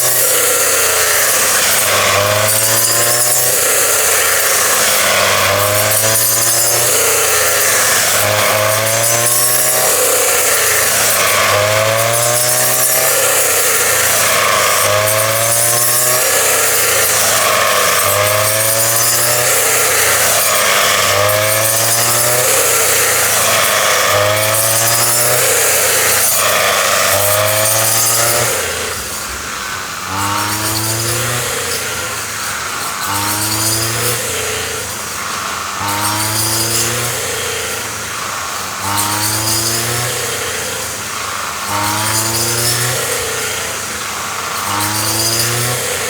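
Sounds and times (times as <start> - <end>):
threshing machine motor running: 0.0 - 46.0.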